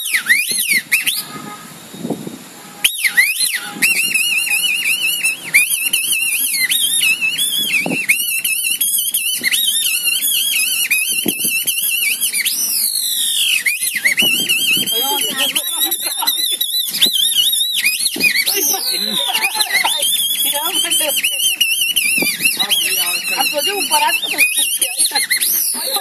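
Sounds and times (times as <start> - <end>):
squeaky reed whistle chatter: 0.0 - 1.4, 2.8 - 26.0.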